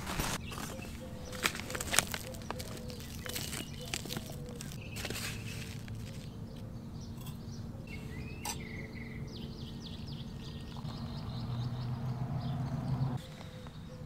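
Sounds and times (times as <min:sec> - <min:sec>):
low background hum: 0:00.1 - 0:14.0
birds chirping: 0:00.2 - 0:14.0.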